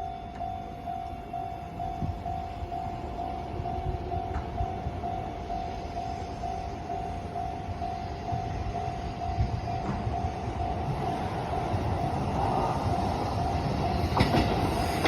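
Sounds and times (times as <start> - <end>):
electronic crossing warning bell: 0.0 - 15.0
low rumble of train: 0.0 - 15.0.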